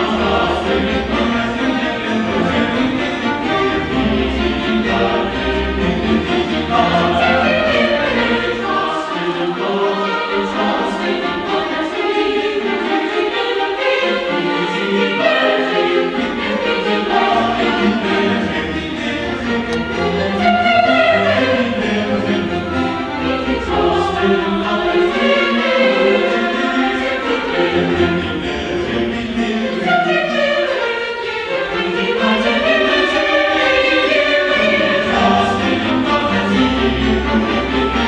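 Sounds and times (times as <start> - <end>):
choir singing: 0.0 - 38.0
orchestral accompaniment: 0.0 - 38.0.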